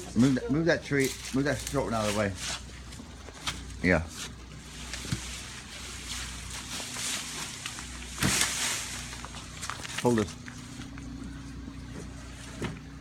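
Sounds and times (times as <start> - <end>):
leafy branches rustling: 0.0 - 13.0
low engine hum: 0.0 - 13.0.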